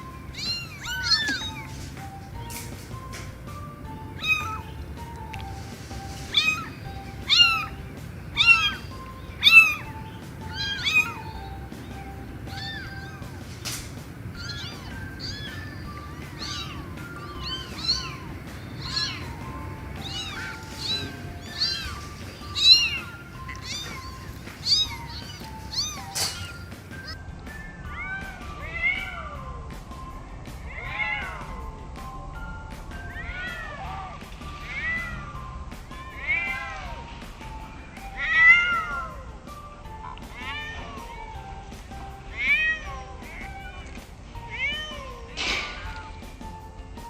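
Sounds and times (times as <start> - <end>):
cat meowing: 0.0 - 3.2, 3.9 - 27.2, 27.9 - 29.6, 30.7 - 31.6, 33.1 - 37.1, 38.0 - 39.3, 40.0 - 41.6, 42.2 - 46.3
background music of held notes: 0.0 - 47.0.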